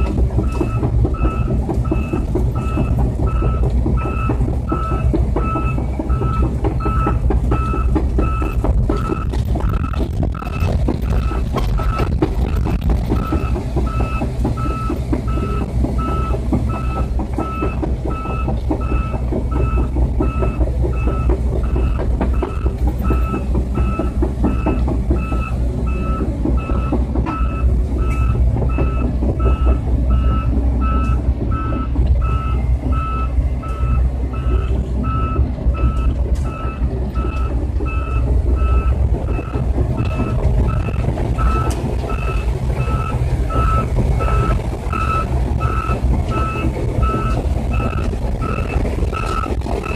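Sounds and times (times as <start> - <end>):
diesel engine running low: 0.0 - 49.9
excavator travel alarm beeping: 0.0 - 49.9.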